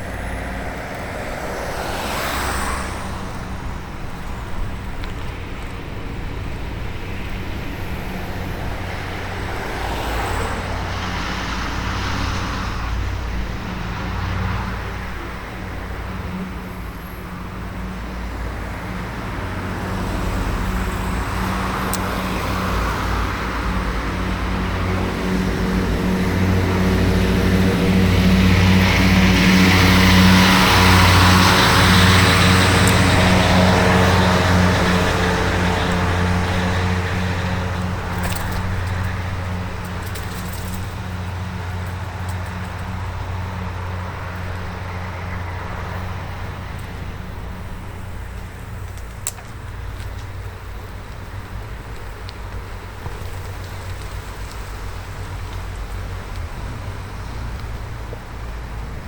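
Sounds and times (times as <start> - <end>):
motor vehicles passing: 0.0 - 59.0.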